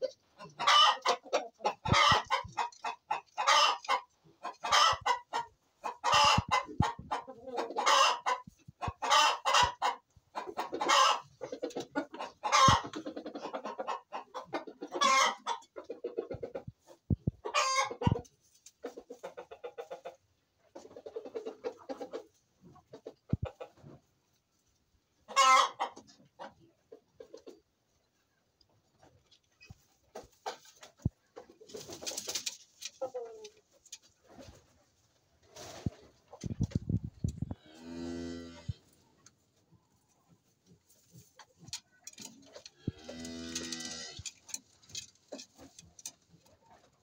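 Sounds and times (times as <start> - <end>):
chickens clucking: 0.0 - 47.0.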